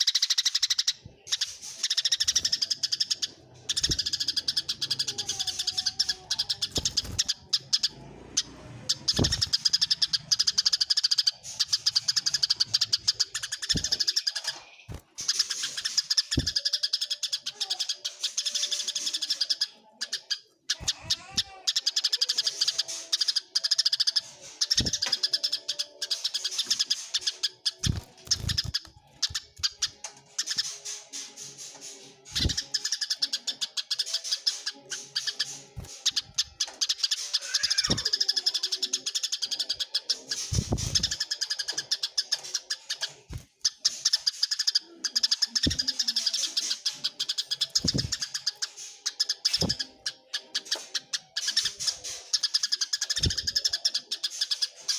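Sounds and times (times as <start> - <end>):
sparrows chattering: 0.0 - 54.9.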